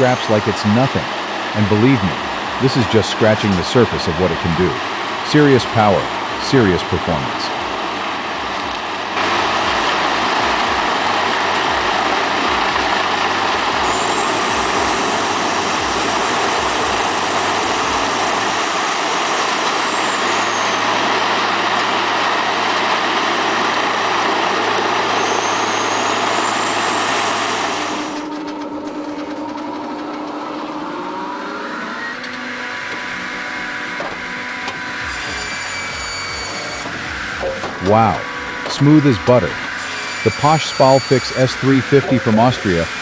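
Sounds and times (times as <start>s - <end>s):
thin high whine: 0.0s - 43.0s
wood-processing machinery running: 1.6s - 43.0s.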